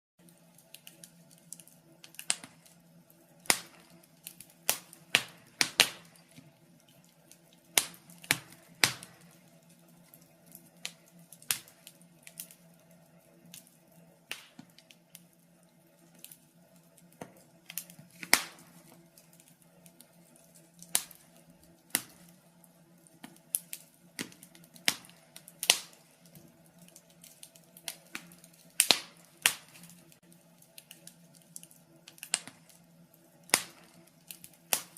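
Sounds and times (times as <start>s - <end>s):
faint steady hum: 0.2s - 34.9s
wood fire crackling: 0.2s - 34.9s.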